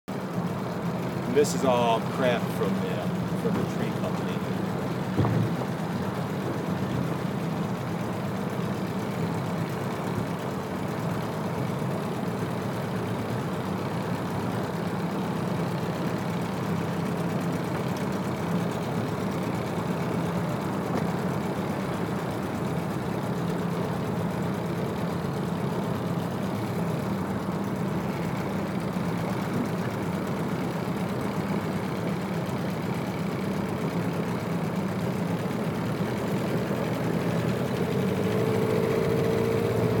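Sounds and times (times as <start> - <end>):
outboard motor running: 0.1 - 40.0.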